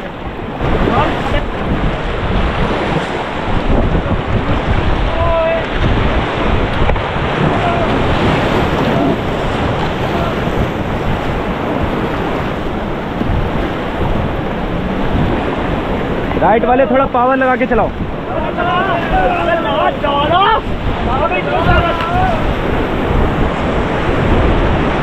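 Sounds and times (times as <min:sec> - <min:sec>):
white-water rapids rushing: 0:00.0 - 0:25.0
wind buffeting microphone: 0:00.0 - 0:25.0.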